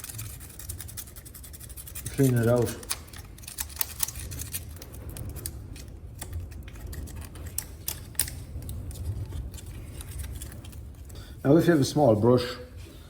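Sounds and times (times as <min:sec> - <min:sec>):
screwdriver scraping metal: 0:00.0 - 0:10.8.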